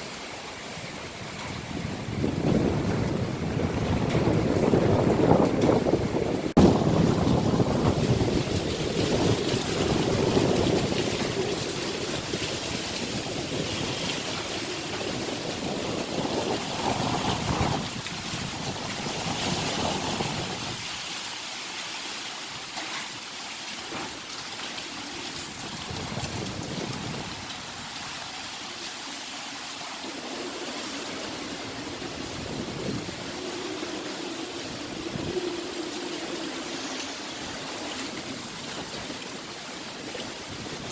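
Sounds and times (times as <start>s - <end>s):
strong wind gusting: 0.6s - 21.1s, 25.0s - 28.7s, 29.8s - 40.9s.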